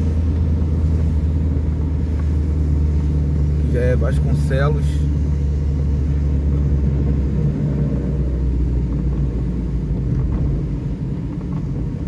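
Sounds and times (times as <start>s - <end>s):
car engine and tyres on wet road: 0.0s - 12.0s.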